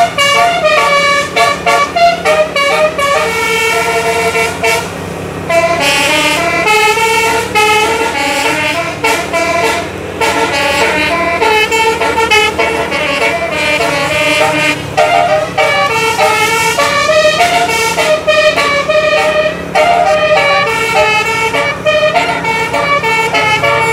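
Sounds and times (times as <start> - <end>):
bus engine hum: 0.0 - 23.9
musical air horn tune: 0.0 - 23.9.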